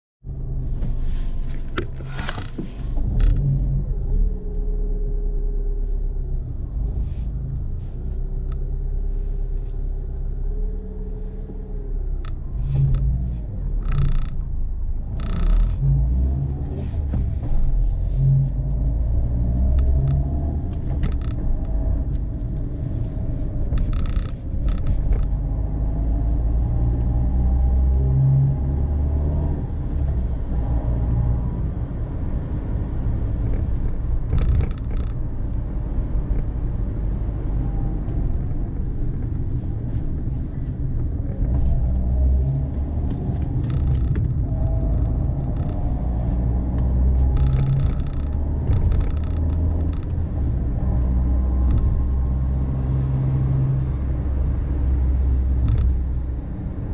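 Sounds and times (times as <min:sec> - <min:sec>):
car engine and tyres rumbling: 0:00.2 - 0:56.9.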